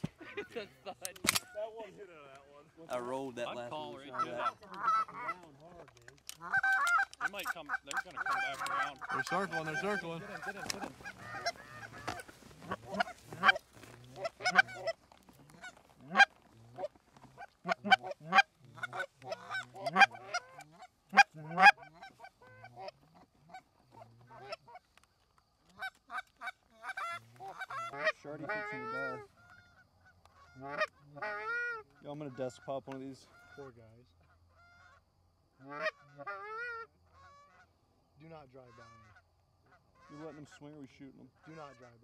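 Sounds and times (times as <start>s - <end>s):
goose honks and clucks: 3.8s - 25.0s, 25.6s - 37.8s, 38.5s - 42.0s.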